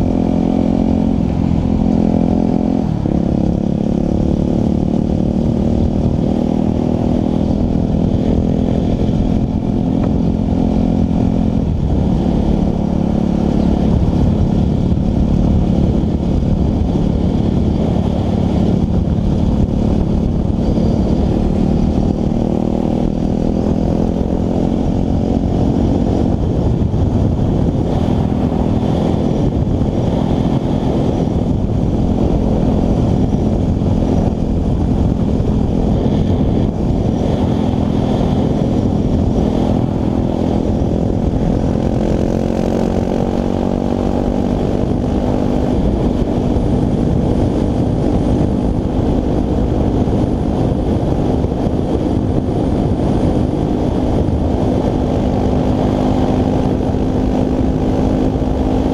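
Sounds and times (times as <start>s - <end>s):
motorcycle engine cruising: 0.0s - 58.9s
wind rush on microphone: 0.0s - 58.9s.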